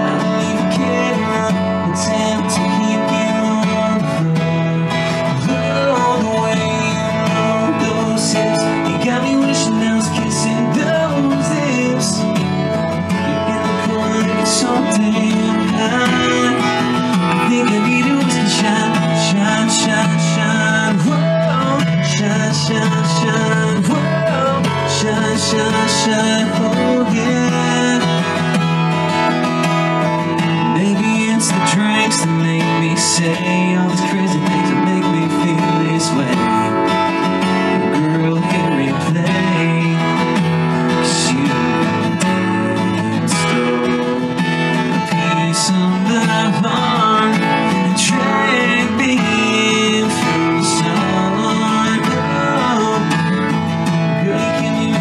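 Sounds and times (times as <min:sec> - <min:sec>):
man singing country song: 0:00.0 - 0:55.0
strummed acoustic guitar: 0:00.0 - 0:55.0.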